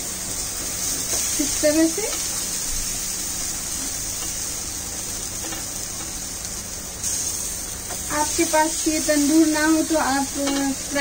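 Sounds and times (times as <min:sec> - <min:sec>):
chicken sizzling on hot grill: 0:00.0 - 0:11.0.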